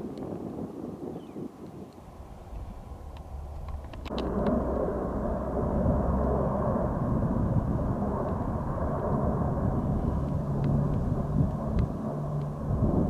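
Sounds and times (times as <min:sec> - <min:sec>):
low hum: 0:02.0 - 0:13.0
turboprop engine drone: 0:02.0 - 0:13.0.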